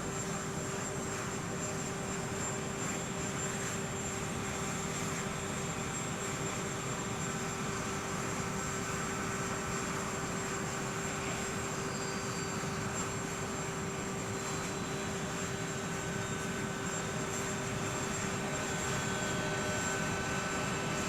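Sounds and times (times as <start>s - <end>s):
aircraft engine running: 0.0s - 21.0s.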